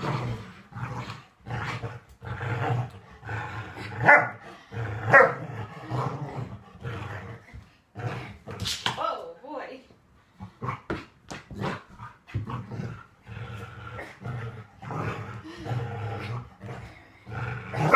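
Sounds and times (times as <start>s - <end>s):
dog growling: 0.0s - 8.6s, 10.4s - 17.9s.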